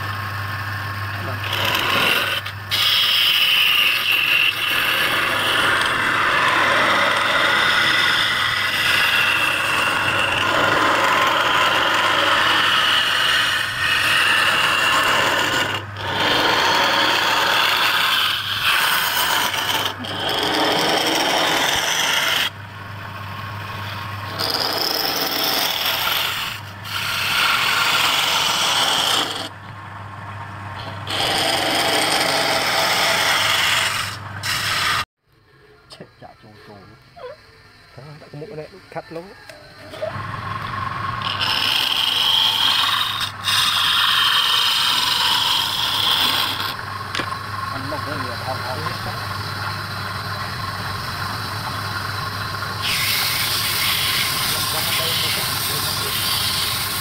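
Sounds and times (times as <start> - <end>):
lathe motor humming: 0.0 - 35.0, 38.2 - 57.0
turning tool scraping wood: 1.1 - 22.6, 23.2 - 29.7, 30.8 - 35.1, 39.8 - 57.0.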